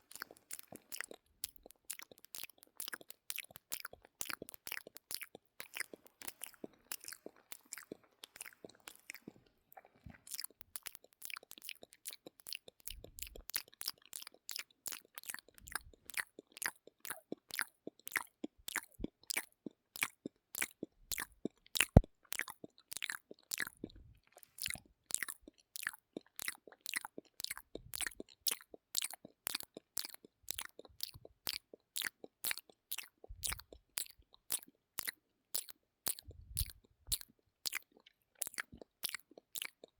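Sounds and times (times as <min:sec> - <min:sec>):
lip and tongue clicks: 0:00.0 - 0:39.9.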